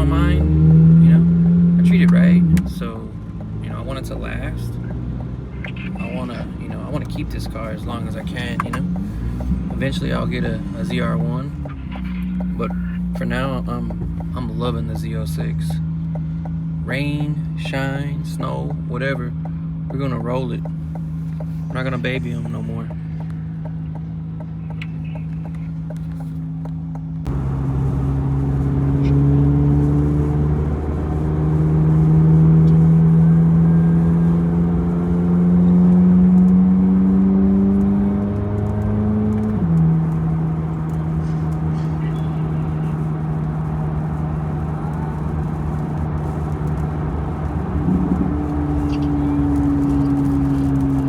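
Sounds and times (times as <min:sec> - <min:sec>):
sports car engine driving: 0:00.0 - 0:51.0.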